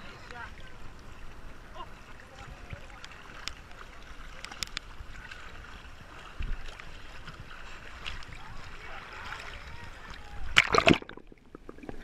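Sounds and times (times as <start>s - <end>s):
small waves splashing on camera: 0.0s - 12.0s.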